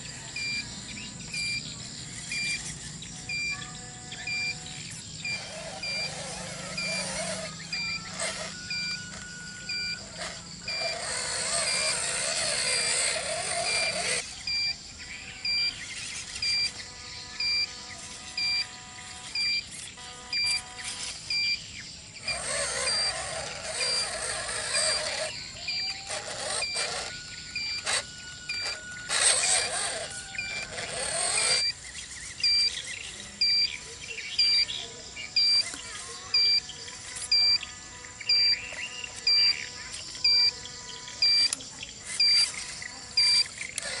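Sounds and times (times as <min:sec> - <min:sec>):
toy truck motor whirring: 0:00.0 - 0:44.0.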